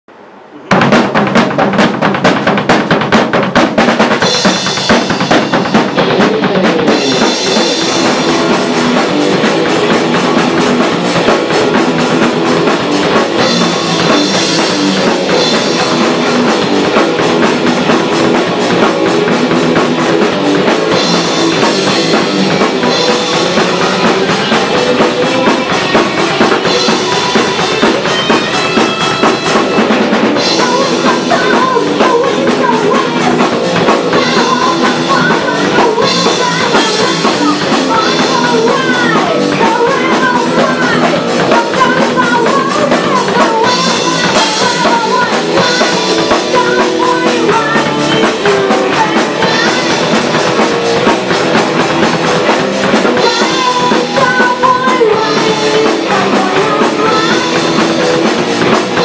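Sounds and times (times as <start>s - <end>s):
drum kit playing: 0.5s - 59.0s
electric guitars: 0.5s - 59.0s
rock band playing live: 0.6s - 59.0s.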